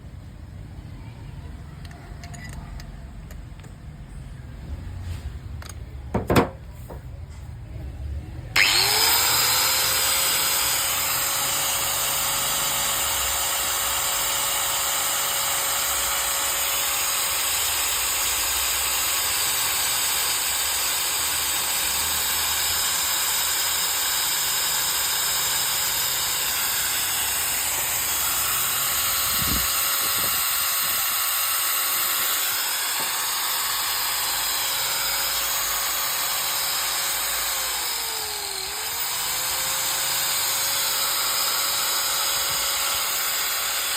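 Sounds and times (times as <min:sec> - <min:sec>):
angle grinder running: 0:08.6 - 0:43.9.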